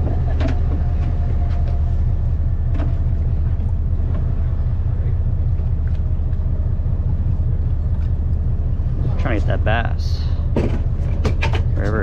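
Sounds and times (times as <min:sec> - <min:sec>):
boat engine drone: 0:00.0 - 0:12.0.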